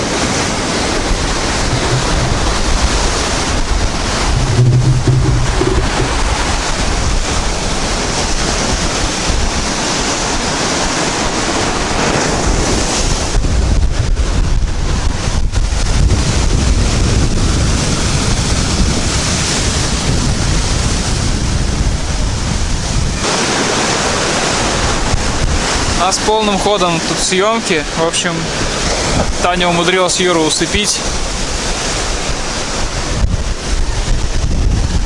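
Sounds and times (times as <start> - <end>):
wind noise on microphone: 0.0 - 27.2, 28.2 - 29.9, 30.6 - 35.0
surf breaking on shore: 0.0 - 35.0.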